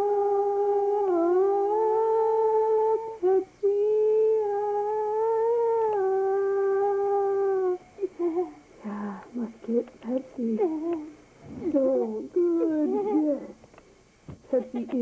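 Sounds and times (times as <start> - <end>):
person humming: 0.0 - 13.6.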